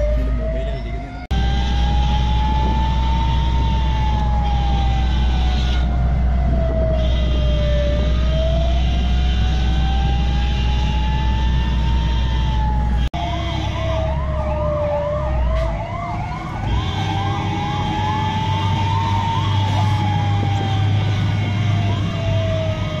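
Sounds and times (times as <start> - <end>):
fire engine siren wailing: 0.0 - 23.0
siren fast yelp: 0.0 - 23.0
truck engines rumbling: 0.0 - 23.0.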